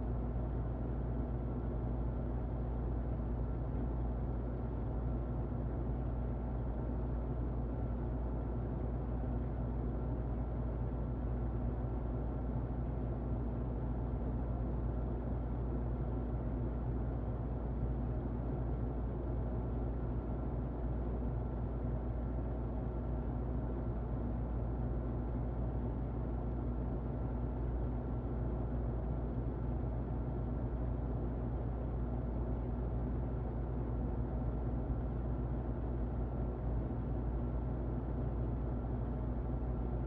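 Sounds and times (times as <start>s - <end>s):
muffled electric fan running: 0.0s - 40.0s.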